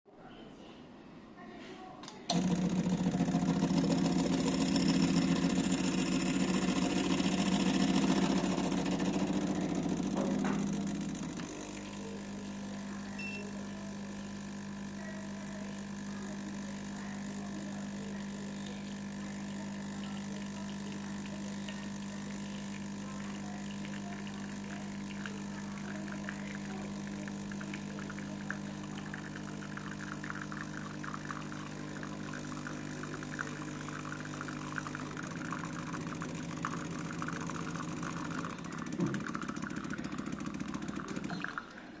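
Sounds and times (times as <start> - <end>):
espresso spitting into cup: 2.3 - 41.8
espresso machine pump humming: 2.3 - 41.9.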